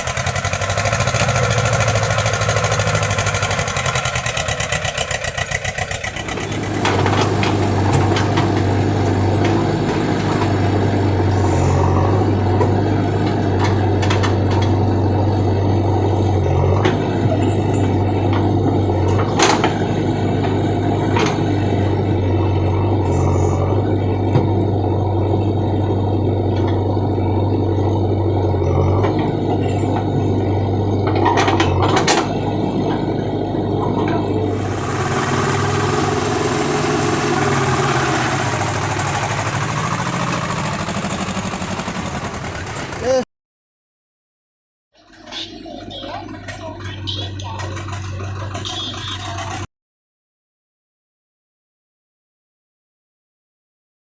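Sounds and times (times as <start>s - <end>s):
diesel engine running: 0.0s - 43.3s, 45.3s - 49.7s.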